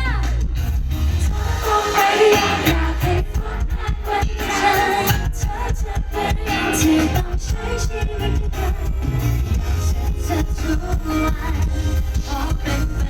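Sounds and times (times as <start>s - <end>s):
bass: 0.0s - 13.0s
live pop band music: 0.0s - 13.0s
drum beat: 0.3s - 13.0s.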